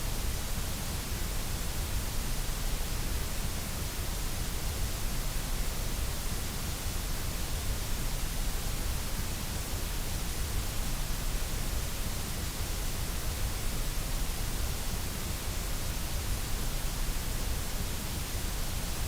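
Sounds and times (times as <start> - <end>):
white noise hiss: 0.0 - 19.0.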